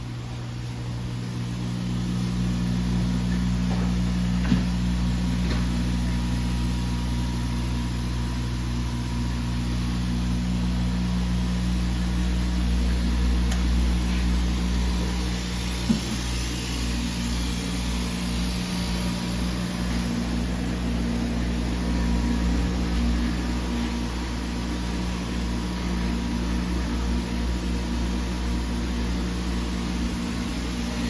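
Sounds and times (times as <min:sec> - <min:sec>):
laser cutting machine humming: 0:00.0 - 0:31.0.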